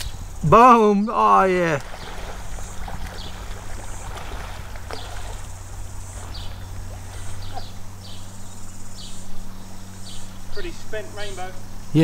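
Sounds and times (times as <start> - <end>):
insects buzzing: 0.0 - 12.0
river water flowing: 0.0 - 12.0.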